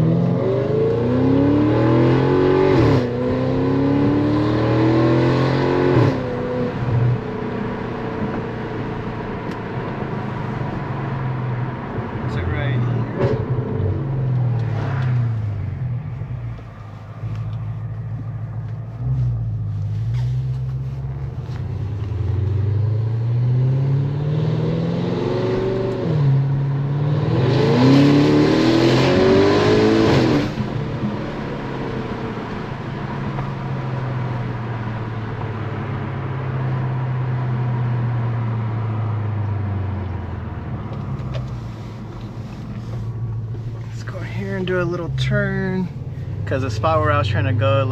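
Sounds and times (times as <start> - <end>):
car engine accelerating: 0.0 - 47.9.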